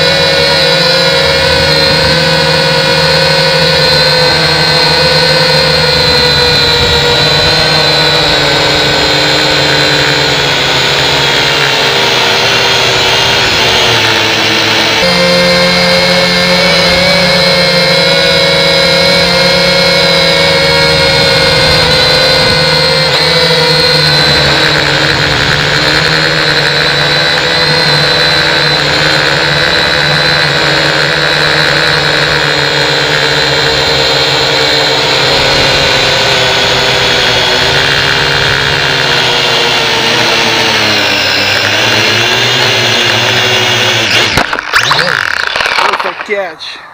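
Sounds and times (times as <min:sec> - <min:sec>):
toy drone propellers buzzing: 0:00.0 - 0:46.9.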